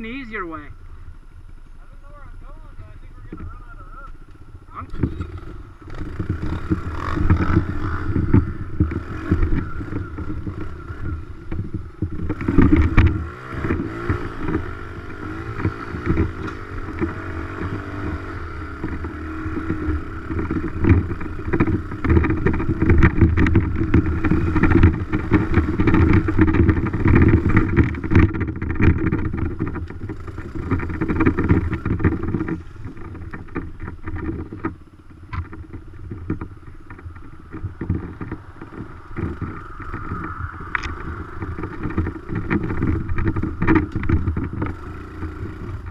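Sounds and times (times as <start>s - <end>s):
dirt bike engine revving: 4.7s - 34.6s, 35.4s - 45.9s
knocks and rattles: 4.8s - 45.9s.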